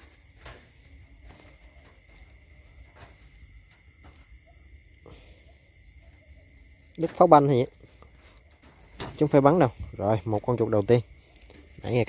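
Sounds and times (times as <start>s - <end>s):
faint clicks and rustles: 0.0s - 12.0s
night insects trilling: 0.0s - 12.0s.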